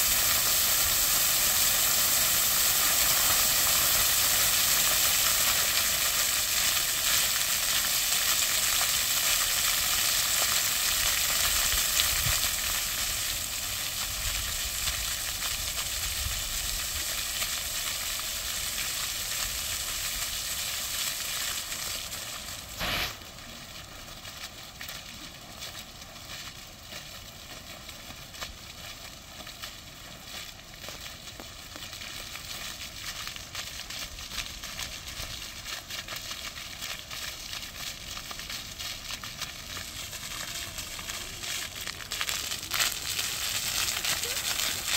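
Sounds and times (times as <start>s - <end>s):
fountain water splashing: 0.0s - 44.9s.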